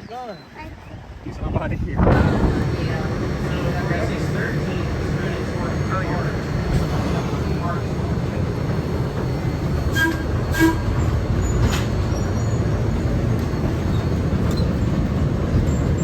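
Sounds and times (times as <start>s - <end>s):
moving vehicle rumble: 0.4s - 16.0s.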